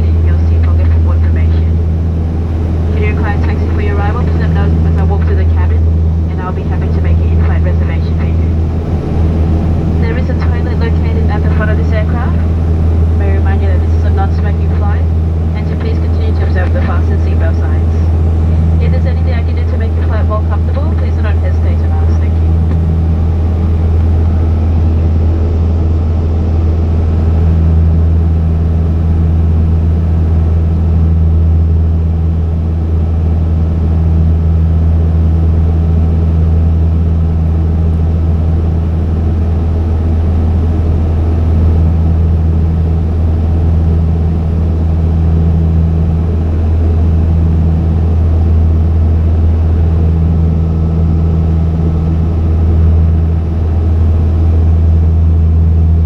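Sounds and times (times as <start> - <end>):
higher engine hum: 0.0 - 56.0
propeller plane engines droning: 0.0 - 56.0.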